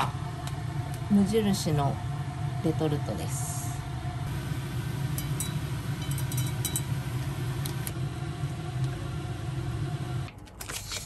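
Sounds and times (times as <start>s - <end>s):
low machine hum: 0.0s - 10.3s.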